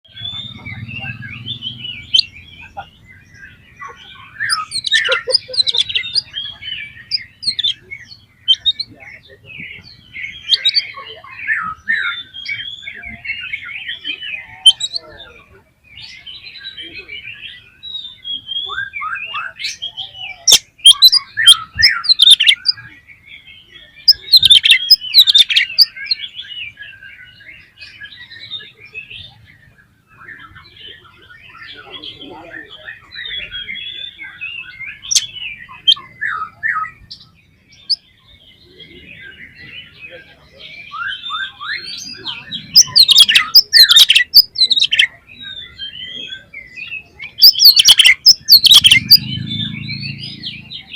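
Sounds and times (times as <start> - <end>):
bird singing fast varied song: 0.0 - 50.9.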